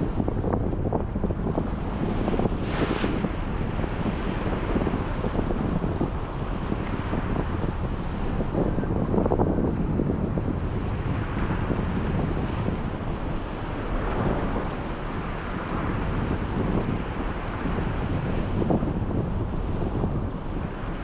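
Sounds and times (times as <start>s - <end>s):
gusty wind buffeting microphone: 0.0s - 21.0s
surf washing on rocks: 0.0s - 21.0s.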